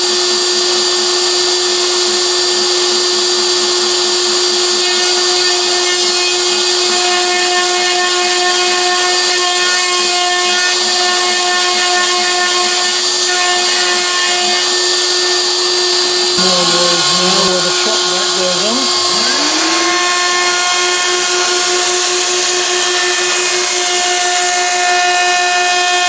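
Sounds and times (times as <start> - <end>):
router spindle whine: 0.0 - 26.0
bit cutting acrylic: 4.6 - 25.8.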